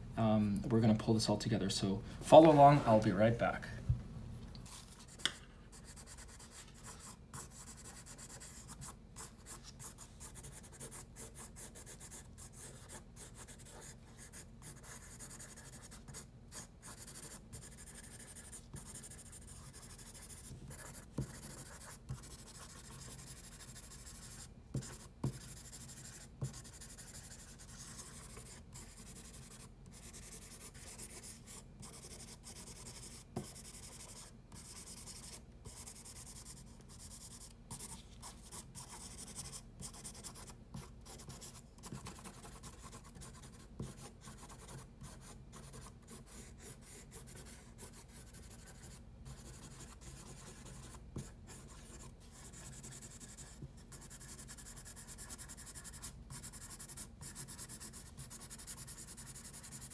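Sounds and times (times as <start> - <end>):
pencil scratching on paper: 4.7 - 59.9.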